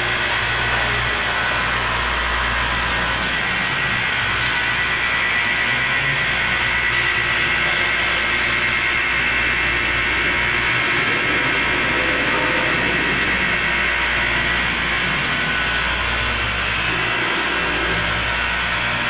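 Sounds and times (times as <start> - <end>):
glass edging machine whirring: 0.0 - 19.0.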